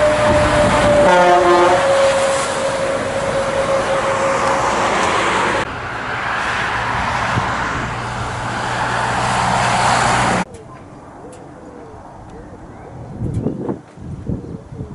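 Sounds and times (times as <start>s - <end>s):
truck passing: 0.0s - 13.3s
truck approaching: 0.0s - 13.5s.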